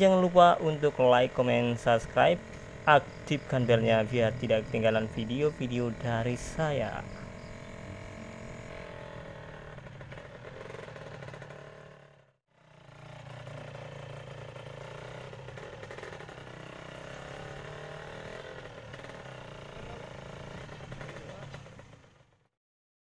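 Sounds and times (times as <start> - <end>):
vehicle engine droning: 0.0 - 22.5.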